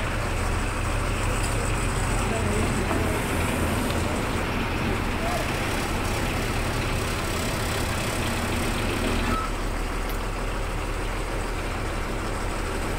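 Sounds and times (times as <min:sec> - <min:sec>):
vehicle engine idling: 0:00.0 - 0:12.9.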